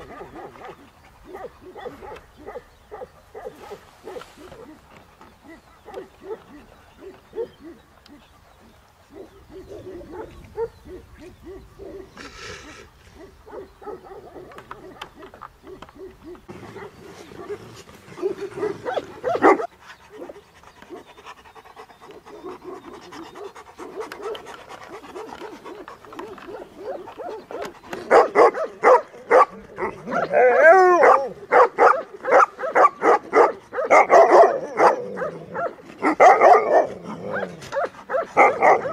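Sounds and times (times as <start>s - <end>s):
dogs low vocal sounds: 0.0s - 38.9s
dogs panting: 0.0s - 38.9s.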